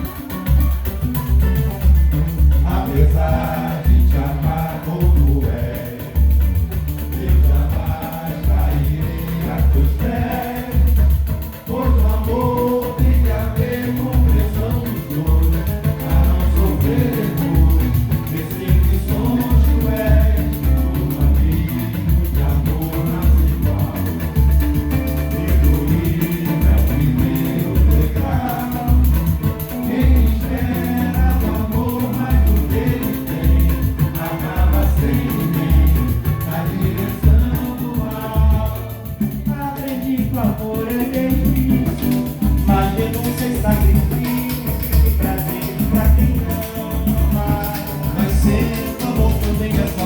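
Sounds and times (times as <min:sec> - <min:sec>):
acoustic guitar: 0:00.0 - 0:50.0
hand percussion: 0:00.0 - 0:50.0
low drum beating: 0:00.6 - 0:50.0
voices singing: 0:01.3 - 0:50.0.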